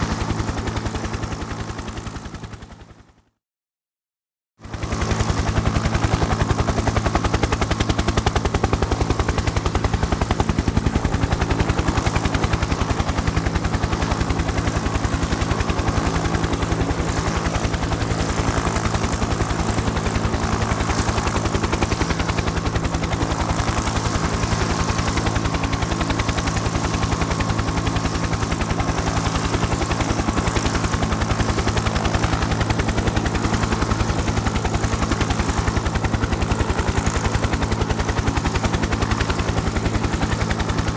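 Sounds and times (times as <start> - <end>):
helicopter rotor blades beating: 0.0 - 3.2, 4.6 - 40.9
helicopter engine drone: 0.0 - 3.3, 4.6 - 40.9.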